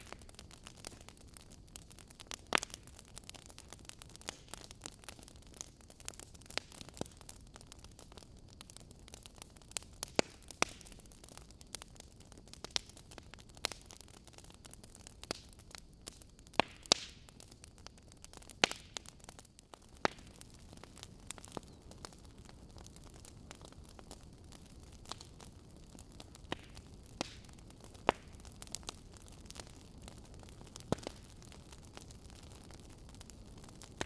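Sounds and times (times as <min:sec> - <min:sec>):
logs crackling and popping in fire: 0:00.0 - 0:34.0.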